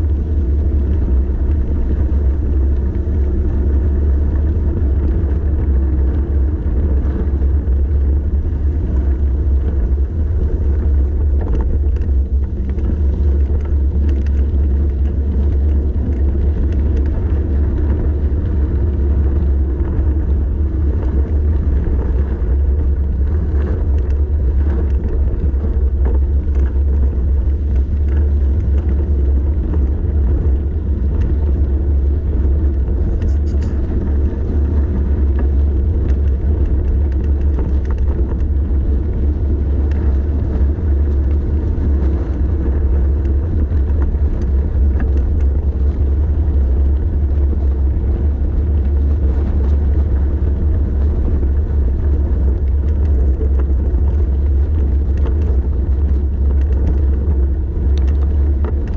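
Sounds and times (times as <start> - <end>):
tyre and road rumble: 0.0 - 58.9
wind buffeting microphone: 0.0 - 58.9.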